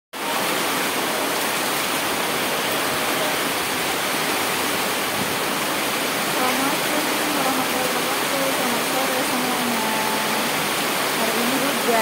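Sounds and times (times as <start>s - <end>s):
heavy rain pouring: 0.1s - 12.0s.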